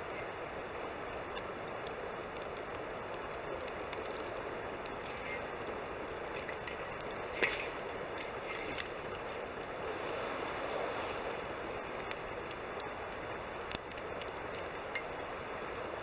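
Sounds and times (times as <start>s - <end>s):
campfire crackling: 0.0s - 16.0s
steady rushing hiss: 0.0s - 16.0s.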